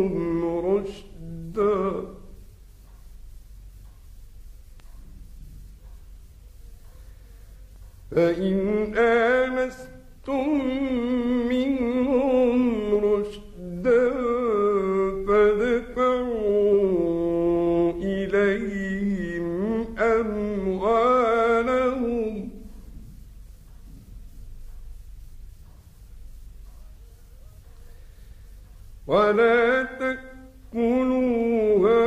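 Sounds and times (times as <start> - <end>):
man chanting melodically: 0.0 - 2.9, 6.8 - 25.0, 26.6 - 32.0.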